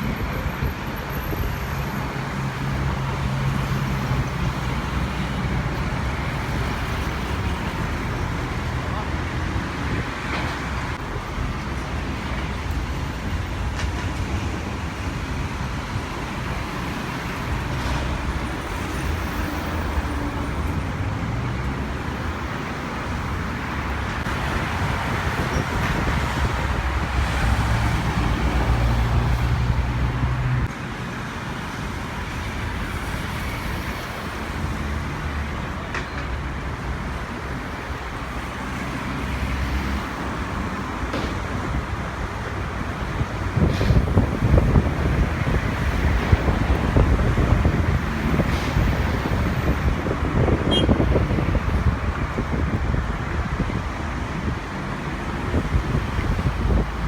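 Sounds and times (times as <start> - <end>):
engine and traffic rumble: 0.0 - 57.0.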